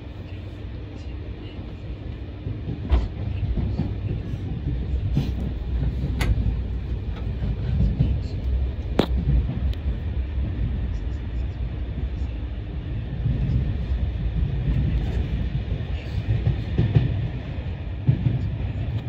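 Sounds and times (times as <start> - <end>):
train low rumble: 0.0 - 19.0.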